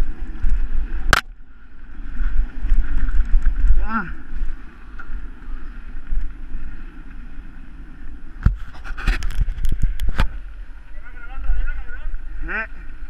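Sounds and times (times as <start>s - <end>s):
bike rattle: 0.0s - 13.0s
wind buffeting microphone: 0.0s - 13.0s.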